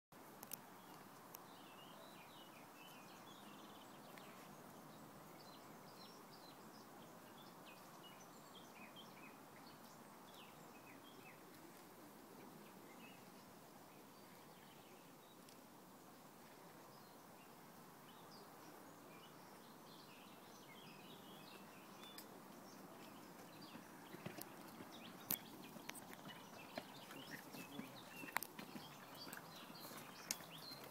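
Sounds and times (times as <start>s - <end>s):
steady background hiss: 0.2s - 30.9s
small birds chirping: 0.4s - 30.9s.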